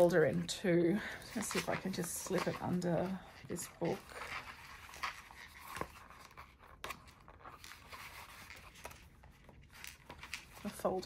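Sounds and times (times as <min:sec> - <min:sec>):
paper rustling: 0:01.0 - 0:11.0.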